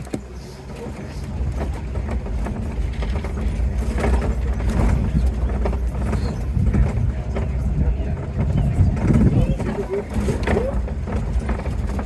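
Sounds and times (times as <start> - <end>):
short rattles and knocks: 0.0 - 12.0
vehicle low rumble: 0.0 - 12.0.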